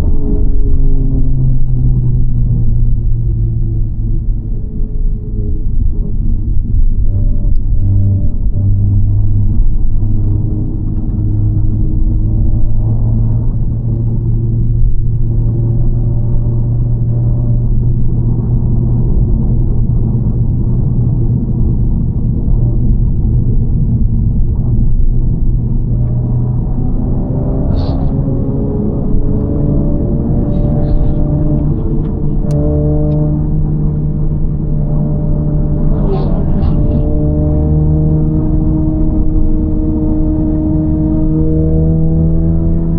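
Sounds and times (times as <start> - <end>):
car engine drone from cabin: 0.0 - 42.9.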